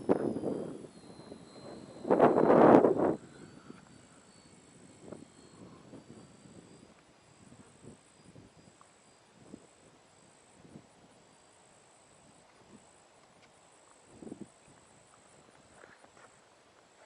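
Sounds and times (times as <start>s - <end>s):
high insect trill: 0.0s - 17.0s.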